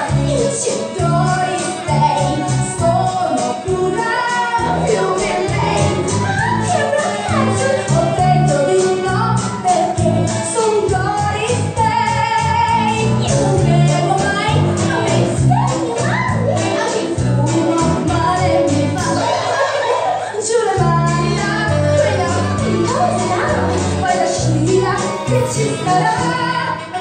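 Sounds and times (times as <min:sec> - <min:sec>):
pop song with sung vocals: 0:00.0 - 0:27.0.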